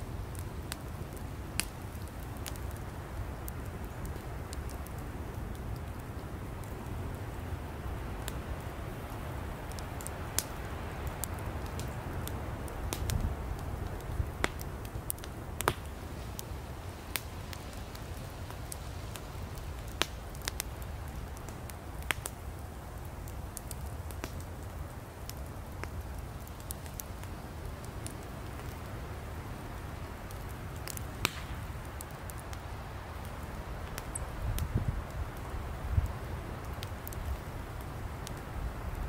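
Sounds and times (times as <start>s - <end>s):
campfire flames rushing: 0.0s - 39.0s
firewood crackles and pops: 0.0s - 39.0s.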